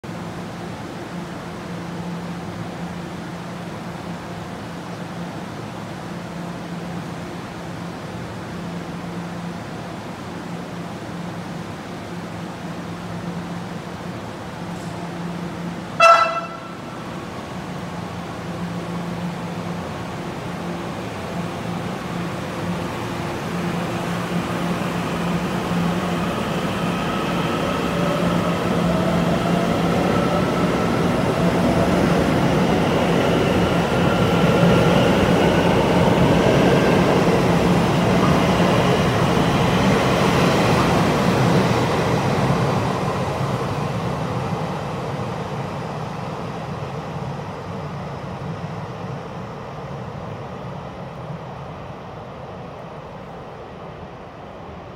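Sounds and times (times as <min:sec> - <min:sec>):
wheels rumbling on rail: 0:00.0 - 0:54.9.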